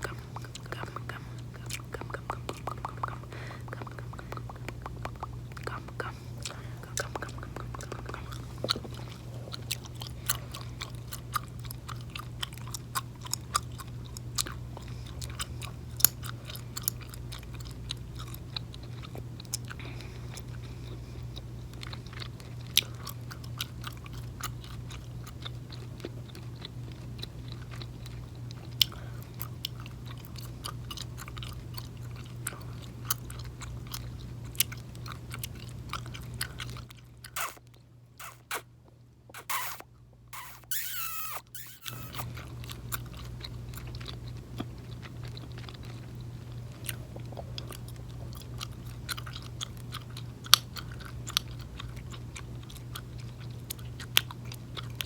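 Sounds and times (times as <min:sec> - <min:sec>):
gum chewing clicks and smacks: 0:00.0 - 0:55.0.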